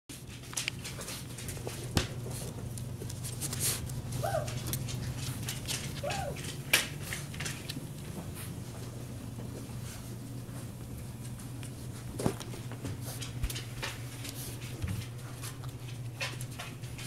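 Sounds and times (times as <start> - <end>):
puppy paws clicking on floor: 0.1 - 17.0
steady low hum: 0.1 - 17.0.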